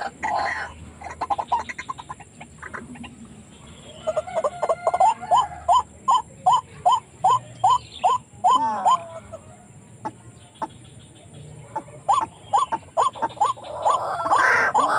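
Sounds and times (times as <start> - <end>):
waterhen calling: 0.0 - 10.8, 11.7 - 14.9.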